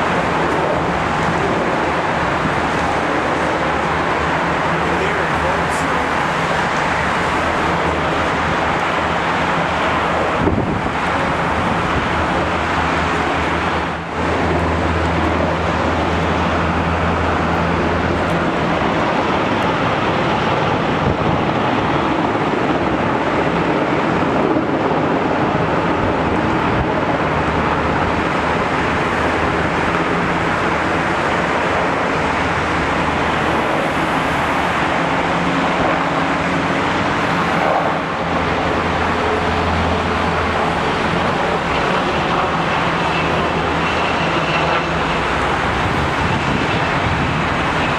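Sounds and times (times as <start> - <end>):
constant wash of noise: 0.0 - 47.9
helicopters droning: 0.0 - 47.9.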